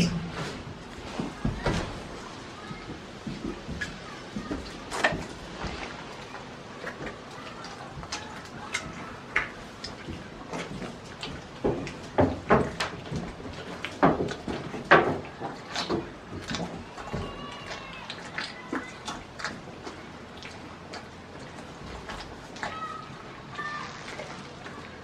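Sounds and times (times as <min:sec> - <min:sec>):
goat kid chewing: 0:00.0 - 0:25.0.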